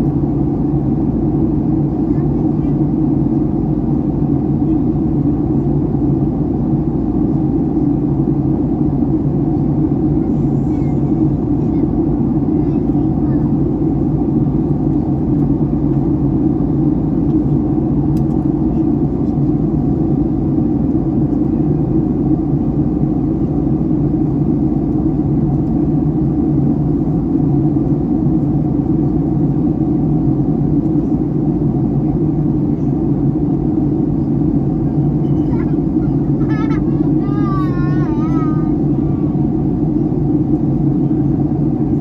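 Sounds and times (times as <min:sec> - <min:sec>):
airplane cabin rumble: 0:00.0 - 0:42.0.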